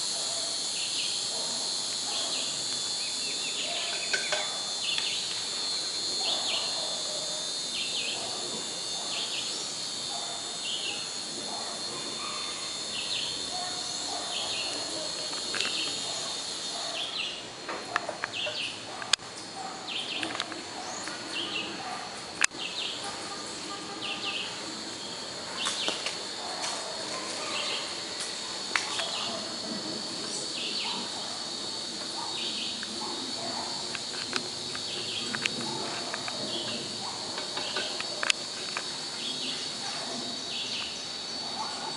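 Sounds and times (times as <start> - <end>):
high insect buzz: 0.0 - 41.9.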